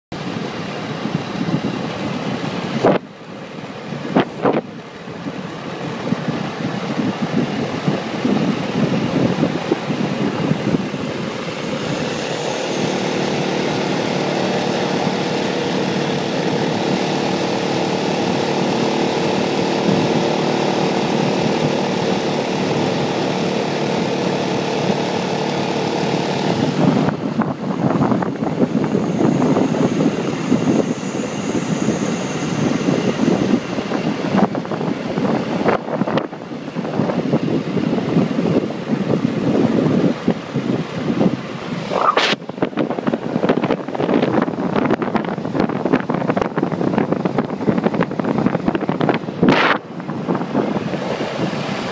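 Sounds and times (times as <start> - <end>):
motorcycle engine droning: 0.2 - 51.9
wind rushing over microphone: 0.2 - 51.9.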